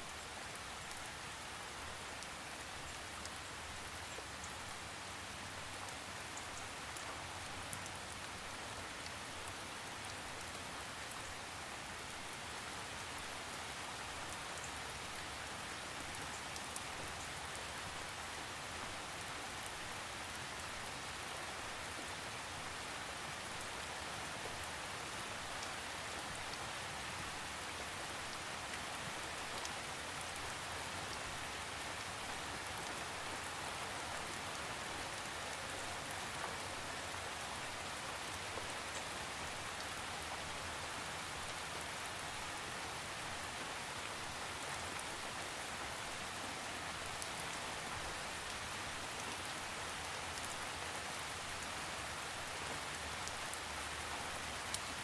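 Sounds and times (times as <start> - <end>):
steady rain hiss: 0.0 - 55.0
raindrops ticking on a surface: 0.1 - 55.0.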